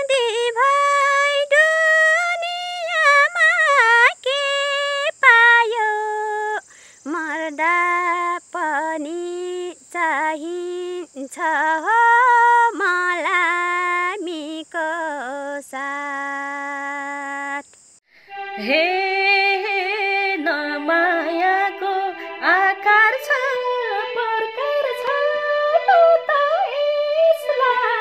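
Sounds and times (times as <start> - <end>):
woman singing unaccompanied: 0.0 - 17.7, 18.3 - 28.0.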